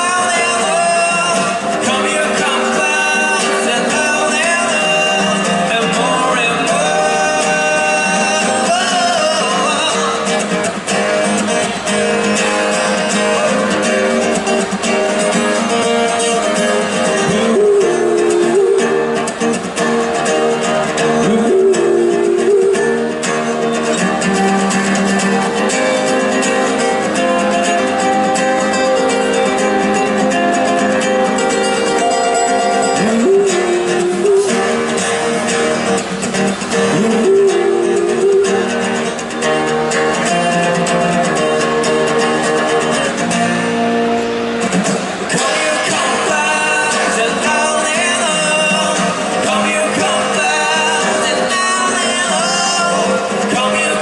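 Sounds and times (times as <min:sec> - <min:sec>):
acoustic band playing: 0:00.0 - 0:54.0
guitar: 0:00.0 - 0:54.0.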